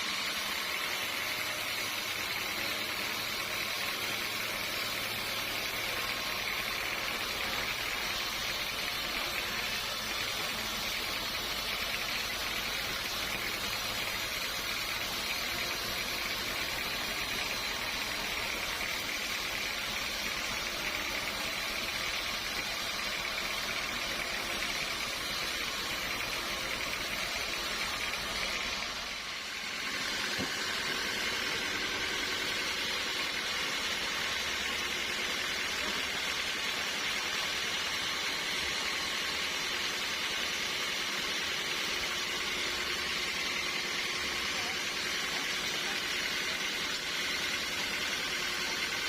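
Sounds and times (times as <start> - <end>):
sawmill machinery running: 0.0 - 49.0.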